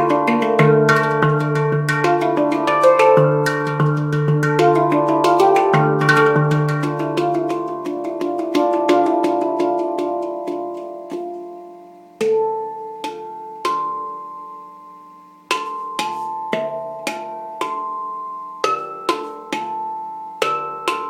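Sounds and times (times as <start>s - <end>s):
handpan notes ringing: 0.0s - 21.0s.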